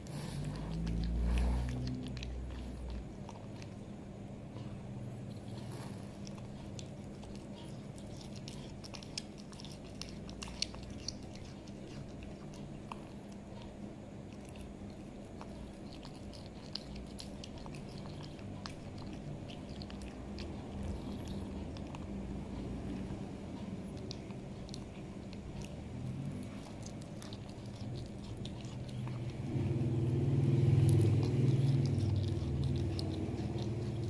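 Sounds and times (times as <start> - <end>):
cat licking and chewing: 0.0 - 34.0
steady low hum: 0.0 - 34.0.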